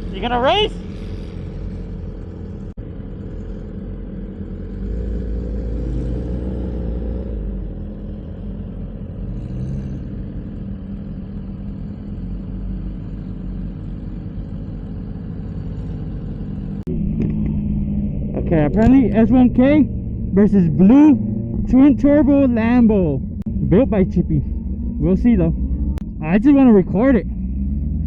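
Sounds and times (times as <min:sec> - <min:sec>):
vehicle engine running at low revs: 0:00.0 - 0:28.0.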